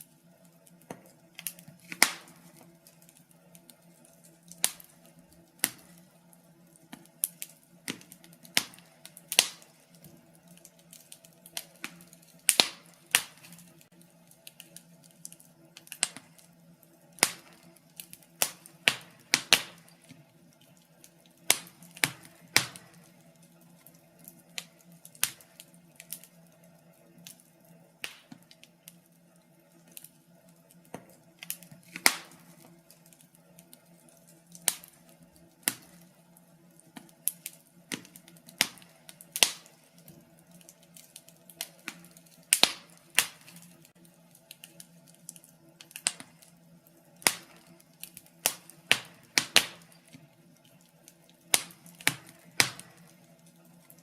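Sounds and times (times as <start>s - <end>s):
faint steady hum: 0.0s - 54.0s
fireplace fire crackling: 0.0s - 54.0s.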